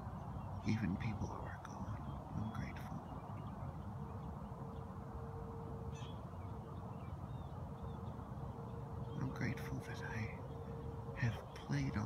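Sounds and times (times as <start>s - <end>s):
faint bird calls: 0.0s - 12.0s
faint steady hum: 0.0s - 12.0s
low steady rumble: 0.0s - 12.0s.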